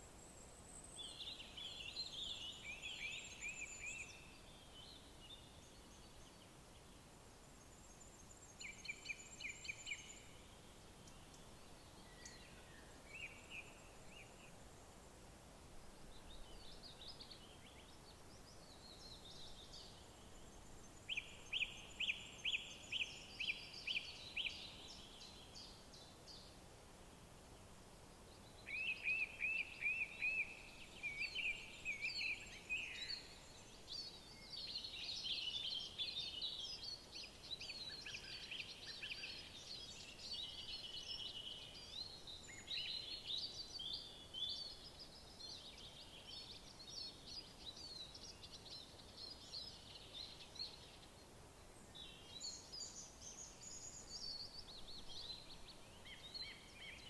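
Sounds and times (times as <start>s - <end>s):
songbirds singing: 0.0s - 15.1s, 16.0s - 26.6s, 27.2s - 57.0s.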